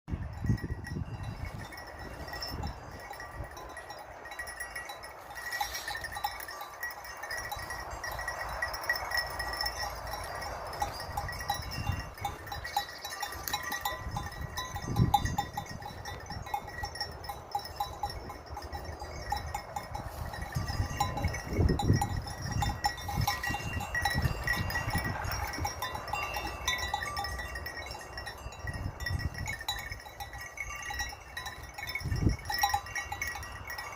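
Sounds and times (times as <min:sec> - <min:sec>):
sheep bells clinking: 0:00.1 - 0:33.9.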